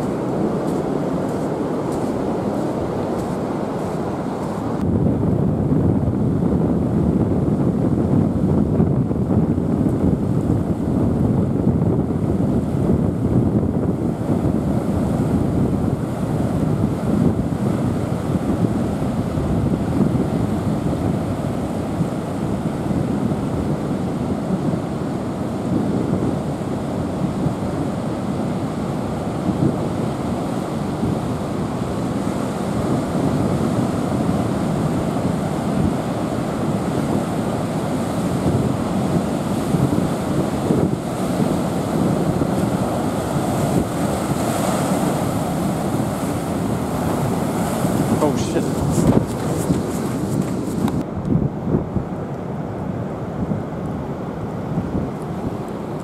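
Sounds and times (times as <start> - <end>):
surf washing around rocks: 0.0 - 4.9, 9.2 - 51.0
wind buffeting microphone: 0.0 - 56.0.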